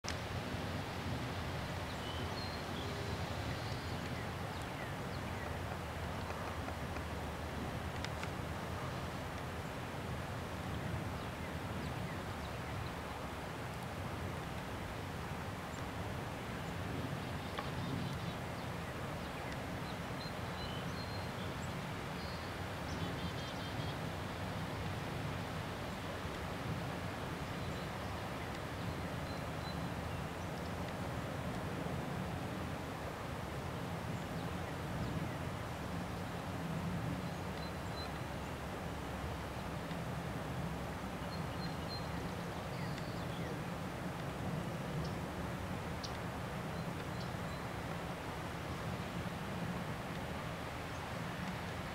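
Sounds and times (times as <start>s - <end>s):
outdoor rumble and hiss: 0.1s - 51.9s.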